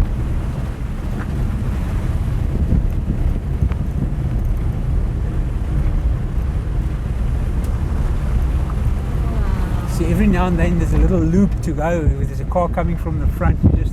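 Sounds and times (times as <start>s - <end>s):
low rumble: 0.0s - 13.9s
wind buffeting microphone: 0.0s - 13.9s.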